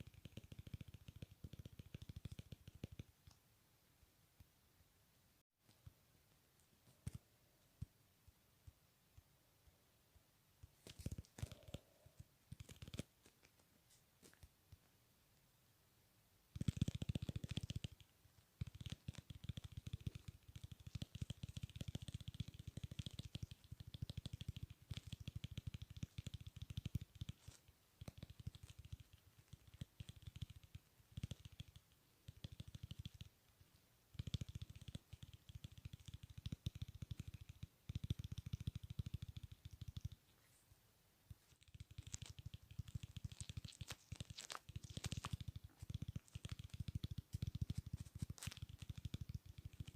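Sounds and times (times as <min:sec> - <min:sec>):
close-miked clicking sounds: 0:00.0 - 0:04.5, 0:05.6 - 0:15.0, 0:16.5 - 0:49.9.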